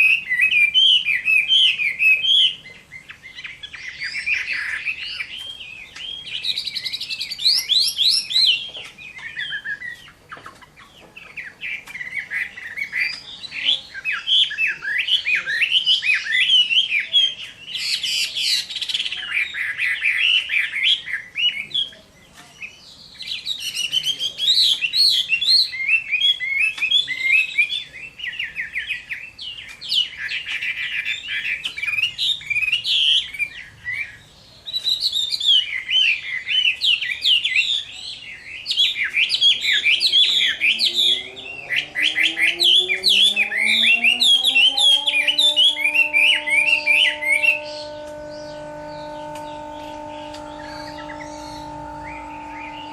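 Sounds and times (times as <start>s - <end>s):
bird singing loud whistled phrases: 0.0s - 22.0s, 22.6s - 52.9s.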